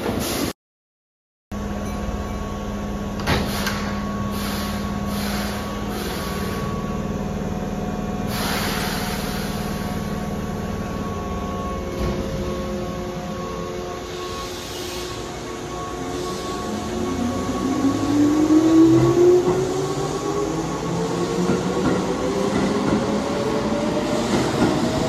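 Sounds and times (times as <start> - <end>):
electric train equipment humming: 1.6 - 25.0.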